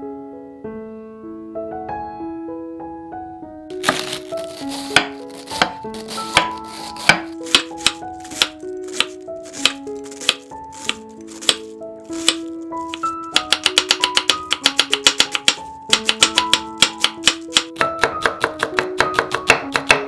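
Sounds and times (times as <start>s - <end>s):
background music: 0.0s - 20.0s
knife shredding cabbage on wood: 3.7s - 20.0s.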